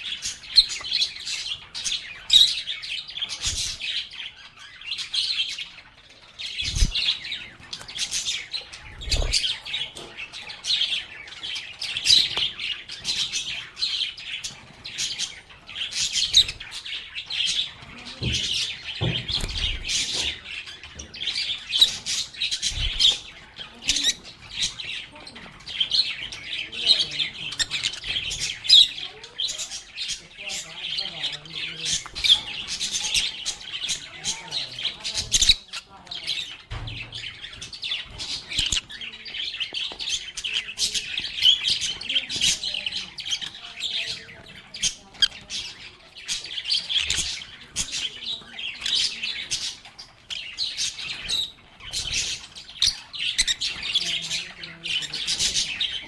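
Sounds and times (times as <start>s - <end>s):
lovebirds chirping and squawking: 0.0s - 56.0s.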